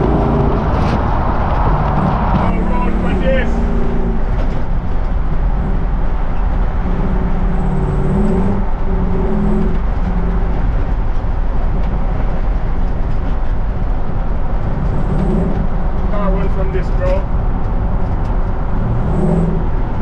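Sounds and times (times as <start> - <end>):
road noise: 0.0 - 20.0
truck engine running: 0.0 - 20.0.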